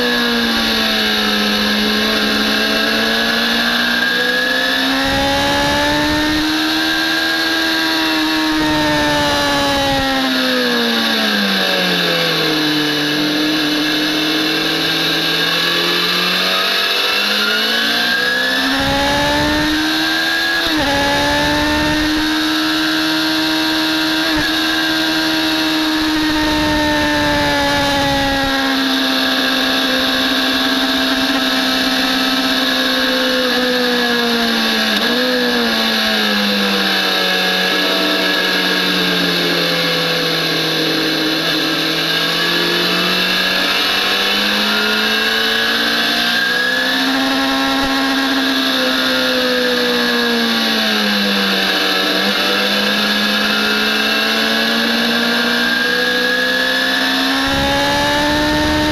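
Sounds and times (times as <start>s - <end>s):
motorcycle engine pulling hard: 0.0s - 58.9s.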